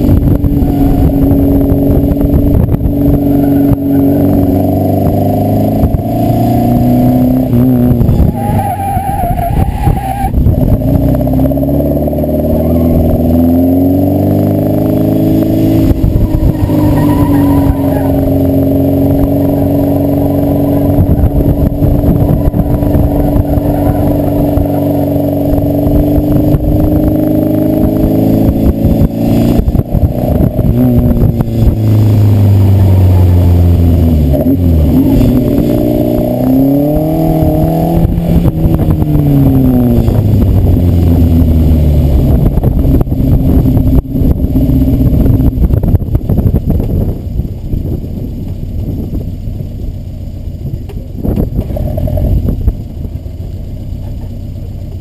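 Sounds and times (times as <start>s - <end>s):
sports car engine revving: 0.0s - 8.6s, 10.3s - 55.0s.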